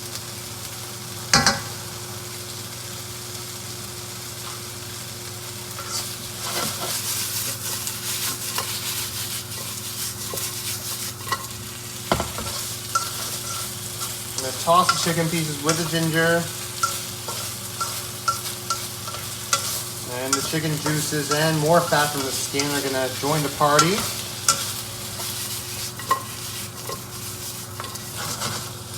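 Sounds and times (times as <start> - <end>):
chicken sizzling in a wok: 0.0 - 28.9.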